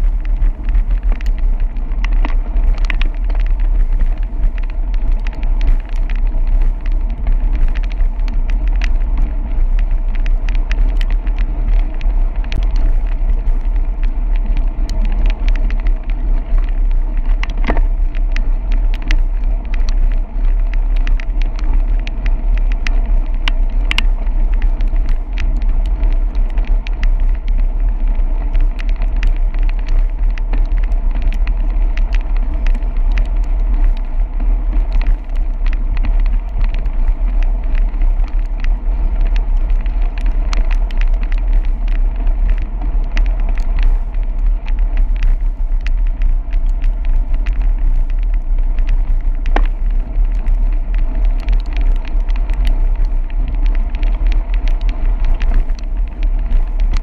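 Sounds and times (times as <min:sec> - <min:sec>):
tyre noise on wet pavement: 0:00.0 - 0:57.0
wind and road rumble: 0:00.0 - 0:57.0
small clicks and taps: 0:00.2 - 0:57.0.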